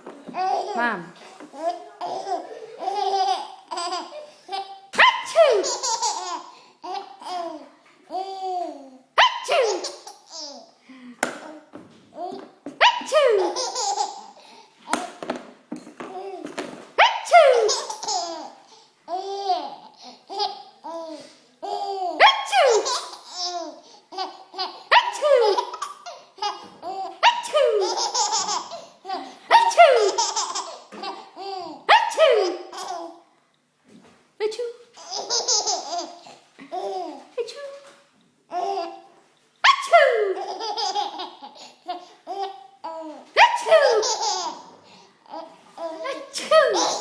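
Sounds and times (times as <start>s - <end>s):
baby laughing: 0.3s - 1.0s, 1.6s - 15.1s, 16.1s - 33.2s, 35.0s - 37.3s, 38.5s - 39.1s, 39.7s - 47.0s.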